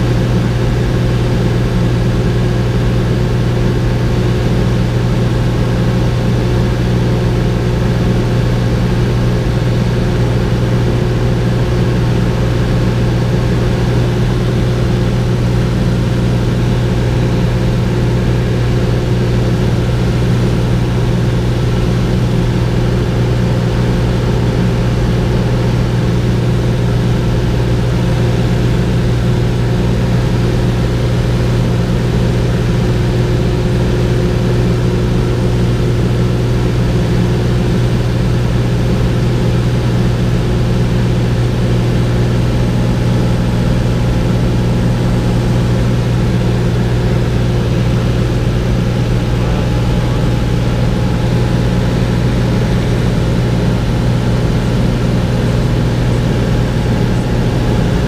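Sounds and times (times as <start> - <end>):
plane engine and propeller droning: 0.0 - 58.0.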